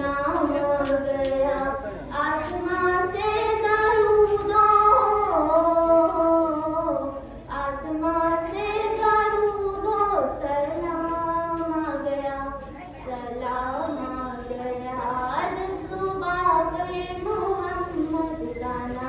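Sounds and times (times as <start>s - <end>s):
girl singing unaccompanied: 0.0s - 19.0s.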